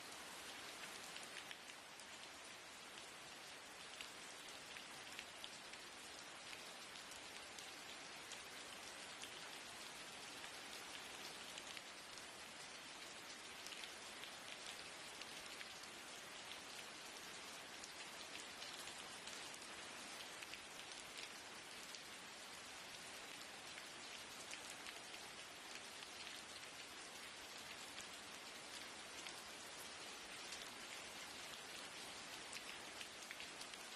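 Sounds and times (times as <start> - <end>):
raindrops ticking on a surface: 0.0 - 33.9
steady rain hiss: 0.0 - 33.9.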